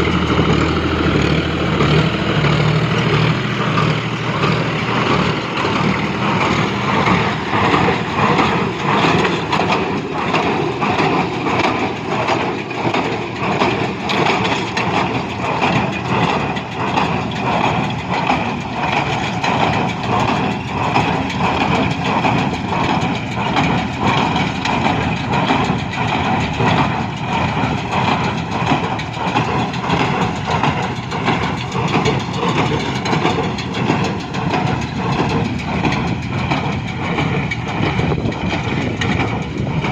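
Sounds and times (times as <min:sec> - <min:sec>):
baler mechanical beat: 0:00.0 - 0:39.9
tractor diesel engine under load: 0:00.0 - 0:39.9.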